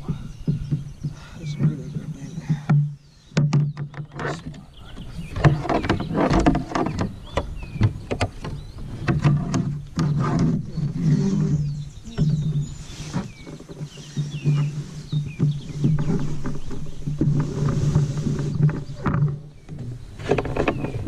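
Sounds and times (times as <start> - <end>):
knocks against kayak hull: 0.0 - 10.8, 11.5 - 21.0
paddle strokes splashing: 3.9 - 21.0.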